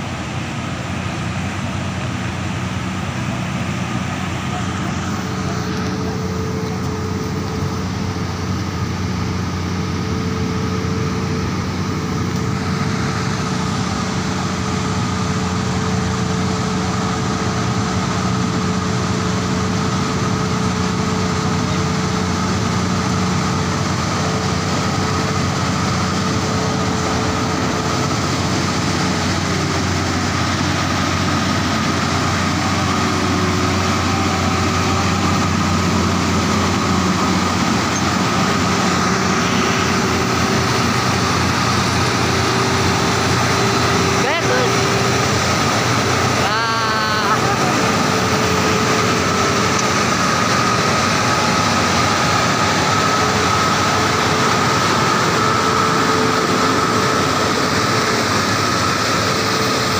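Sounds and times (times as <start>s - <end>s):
heavy diesel engines under load: 0.0s - 59.9s
high whine: 0.0s - 59.9s.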